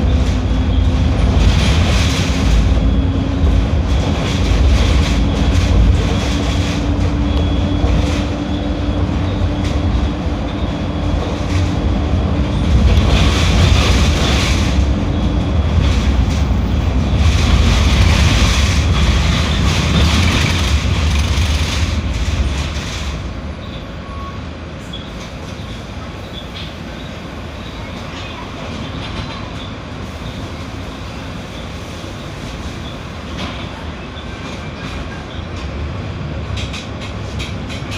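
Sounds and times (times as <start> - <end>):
diesel bus engine rumbling: 0.0 - 37.9.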